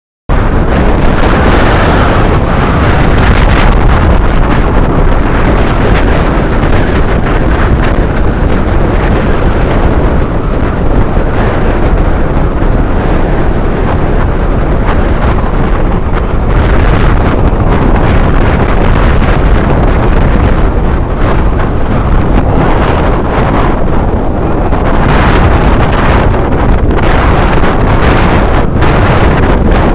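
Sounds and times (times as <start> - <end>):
waves breaking on beach: 0.3 - 29.9
wind buffeting microphone: 0.3 - 29.9.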